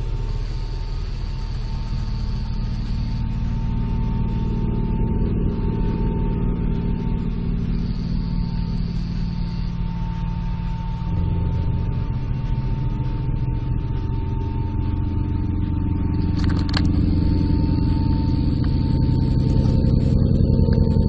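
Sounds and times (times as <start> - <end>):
deep droning hum: 0.0 - 21.0
faint high whine: 0.0 - 21.0.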